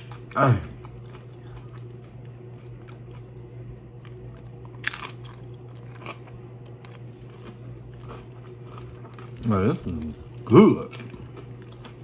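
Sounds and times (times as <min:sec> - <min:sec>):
crunching tortilla chips: 0:00.0 - 0:12.0
steady low hum: 0:00.0 - 0:12.0.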